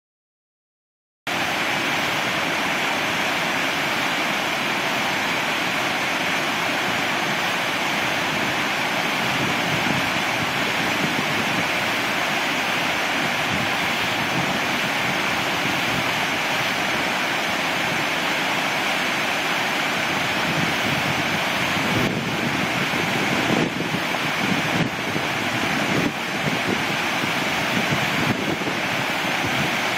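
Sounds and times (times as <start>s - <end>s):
waterfall rushing: 1.3s - 29.9s.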